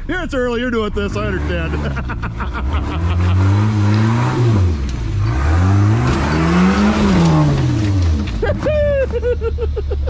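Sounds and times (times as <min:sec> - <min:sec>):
engine revving: 0:00.9 - 0:09.1.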